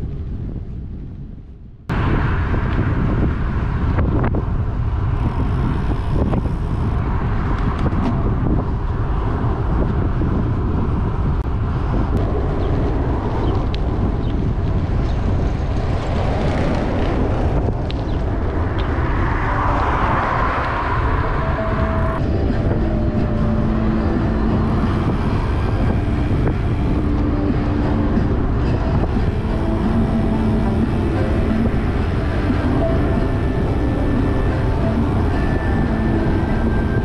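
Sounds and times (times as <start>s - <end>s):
road noise: 0.0s - 37.0s
wind buffeting microphone: 0.0s - 37.0s.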